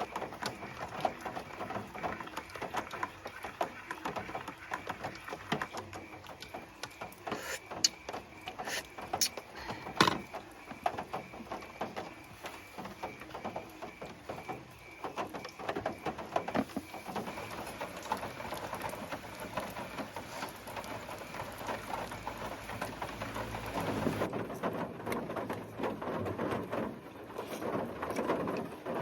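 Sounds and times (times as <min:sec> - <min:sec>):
rain on car roof: 0:00.0 - 0:29.0.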